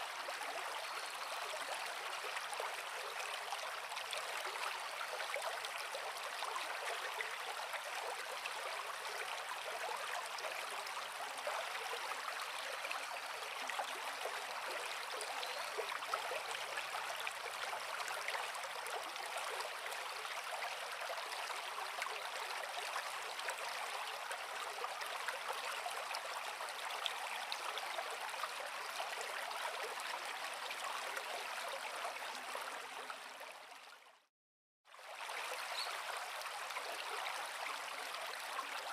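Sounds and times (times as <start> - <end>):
creek water over rocks: 0.0 - 34.3, 34.9 - 38.9.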